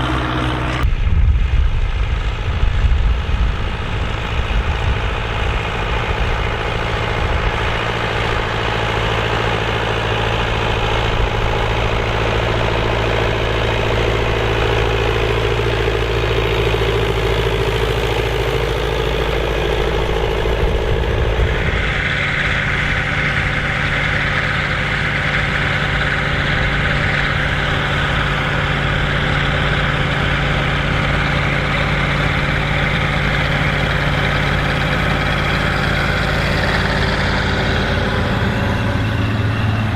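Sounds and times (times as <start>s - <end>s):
high whine: 0.0s - 39.9s
tractor engine running: 0.0s - 39.9s.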